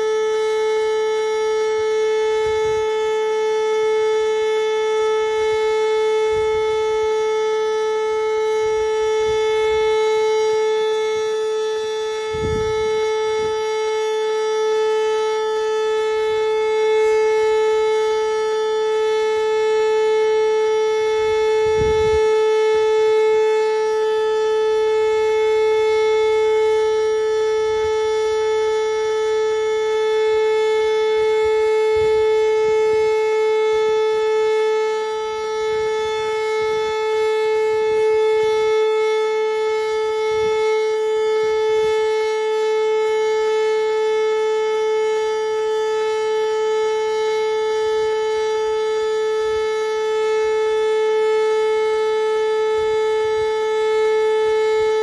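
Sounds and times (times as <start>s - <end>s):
tornado siren steady tone: 0.0s - 55.0s.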